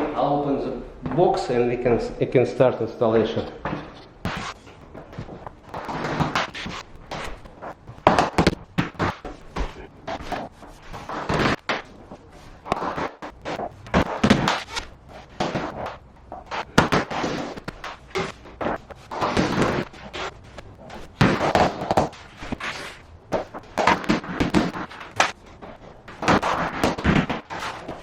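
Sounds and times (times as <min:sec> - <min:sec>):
planks scraping: 0:03.1 - 0:28.0.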